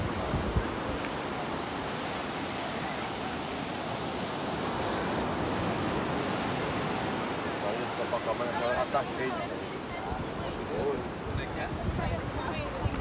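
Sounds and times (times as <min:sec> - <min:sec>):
surf breaking on sandy beach: 0:00.0 - 0:13.0.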